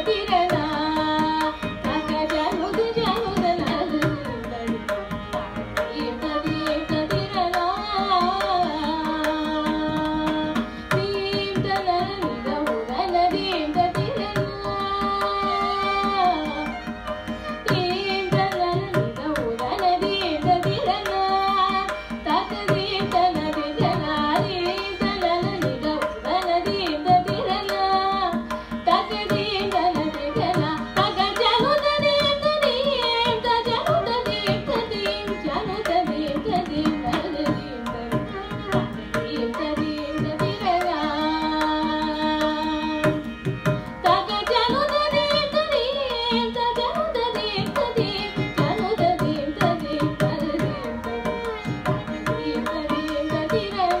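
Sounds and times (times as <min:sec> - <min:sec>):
rapid hand drumming: 0:00.0 - 0:16.9, 0:17.6 - 0:54.0
violin: 0:00.0 - 0:54.0
woman singing: 0:00.0 - 0:54.0.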